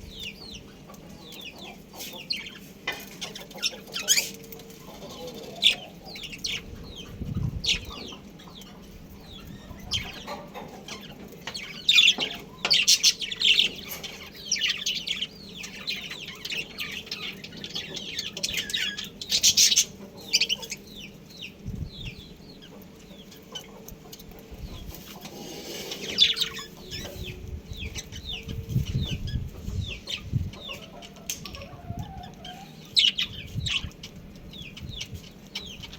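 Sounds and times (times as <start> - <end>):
budgerigars chirping: 0.1 - 23.9, 24.6 - 35.9.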